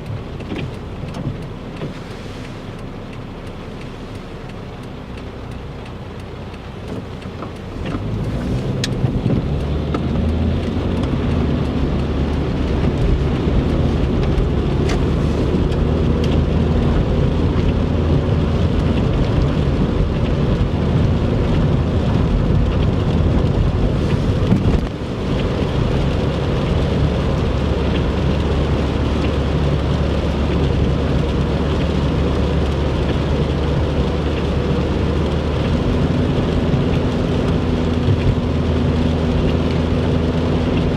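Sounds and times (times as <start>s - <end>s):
rain on car: 0.0s - 40.9s
road and tyre noise: 0.0s - 40.9s.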